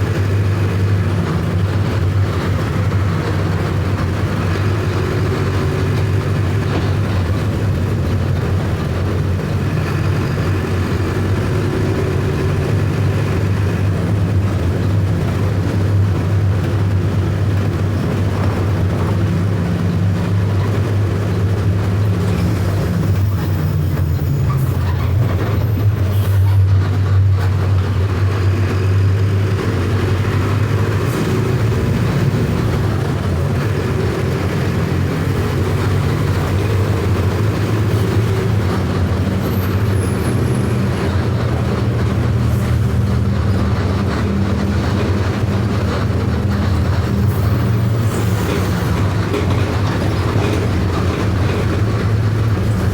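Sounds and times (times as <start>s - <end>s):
bus diesel engine drone: 0.0s - 52.9s.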